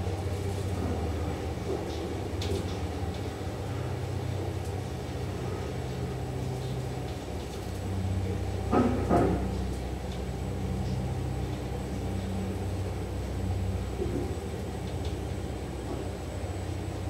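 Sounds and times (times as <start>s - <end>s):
elevator drive hum: 0.0s - 17.0s.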